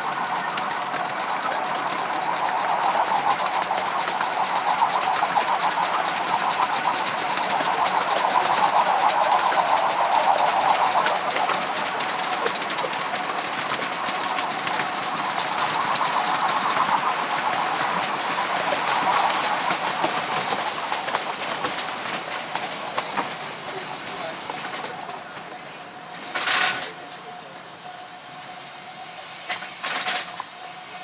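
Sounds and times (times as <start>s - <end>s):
miniature train running: 0.0s - 31.0s
wheels clicking on rails: 0.0s - 31.0s.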